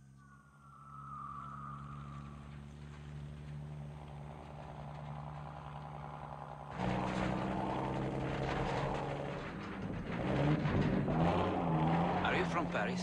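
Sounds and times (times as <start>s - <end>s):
truck engine running: 1.1s - 13.0s.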